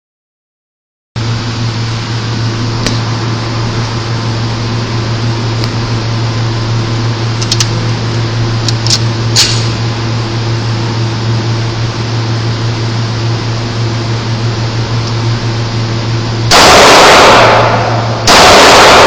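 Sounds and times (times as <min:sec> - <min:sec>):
ventilation fan hum: 0:01.2 - 0:19.0.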